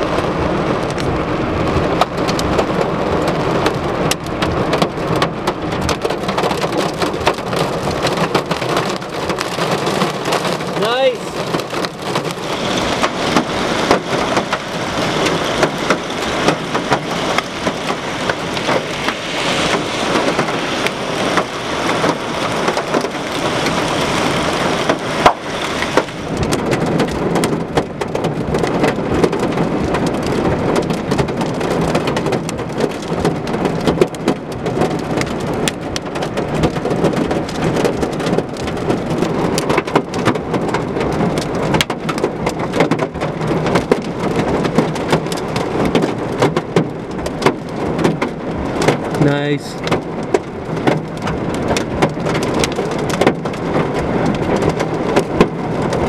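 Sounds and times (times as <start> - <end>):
heavy rain pattering: 0.0 - 56.0
hailstones ticking: 0.2 - 56.0.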